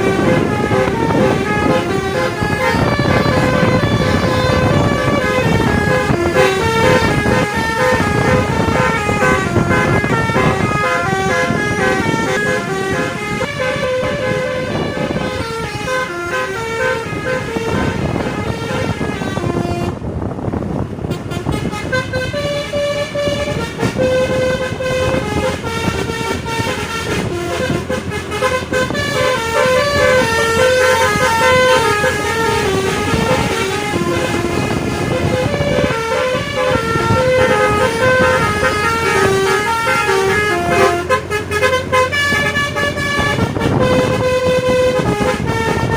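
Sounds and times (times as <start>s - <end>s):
multi-note air horn tune: 0.0s - 20.0s, 21.0s - 45.9s
bus running: 0.0s - 45.9s.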